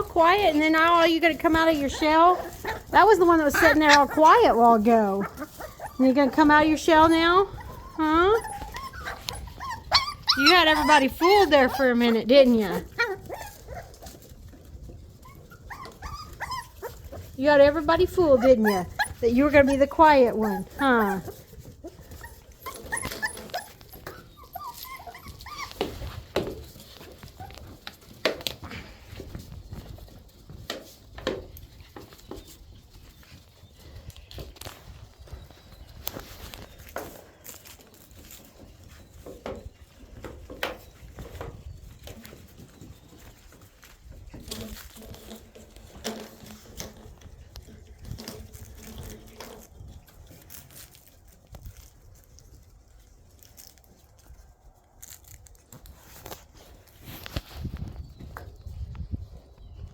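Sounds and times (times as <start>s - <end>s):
puppies' paws scuffling: 0.0s - 59.9s.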